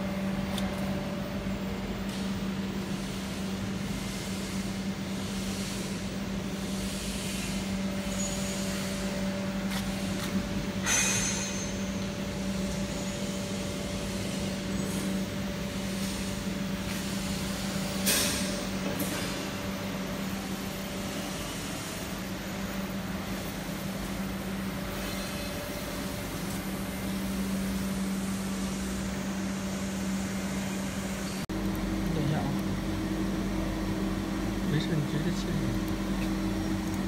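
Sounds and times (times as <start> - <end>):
factory machinery humming: 0.0 - 37.0.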